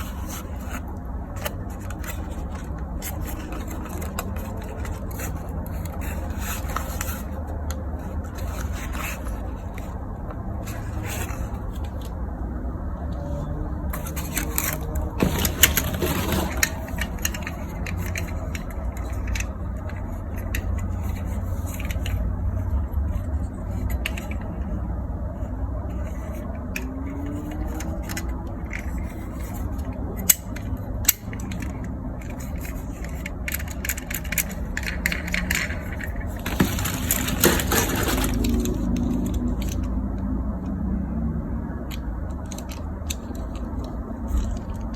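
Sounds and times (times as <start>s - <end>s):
plastic toys clattering: 0.0s - 12.3s, 13.8s - 24.8s, 25.4s - 40.2s, 41.8s - 44.9s.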